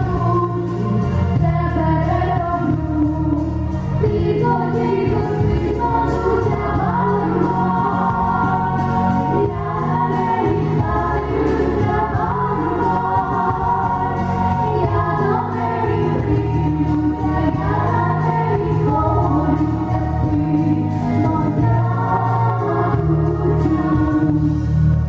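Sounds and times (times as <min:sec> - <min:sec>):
instrumental accompaniment: 0:00.0 - 0:25.0
woman and girl singing duet: 0:01.4 - 0:24.6.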